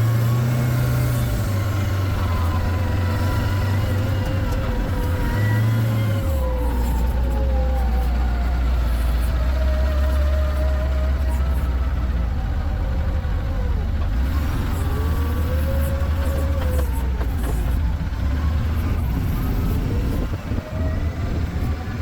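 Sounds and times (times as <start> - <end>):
low vehicle engine rumble: 0.0 - 22.0.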